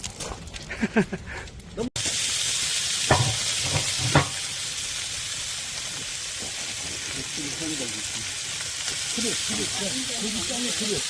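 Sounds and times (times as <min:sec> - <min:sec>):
meat sizzling on a griddle: 0:01.9 - 0:11.0.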